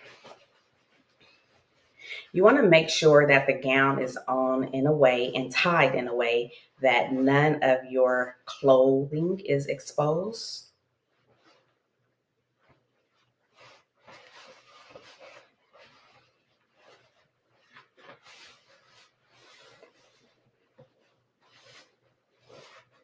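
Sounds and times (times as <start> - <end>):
gown fabric rustling: 0.0 - 8.8, 10.9 - 23.0.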